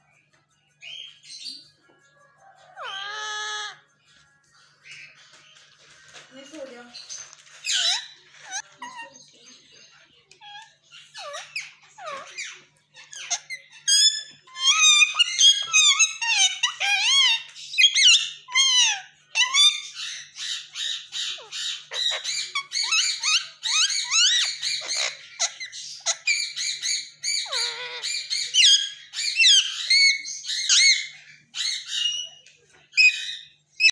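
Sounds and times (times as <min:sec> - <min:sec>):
parakeet chattering: 0:02.7 - 0:03.8, 0:06.1 - 0:32.4.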